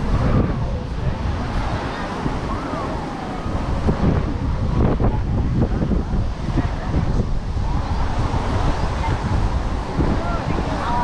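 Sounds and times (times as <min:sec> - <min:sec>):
people's voices: 0:00.0 - 0:11.0
surf washing: 0:00.0 - 0:11.0
wind buffeting microphone: 0:00.0 - 0:11.0.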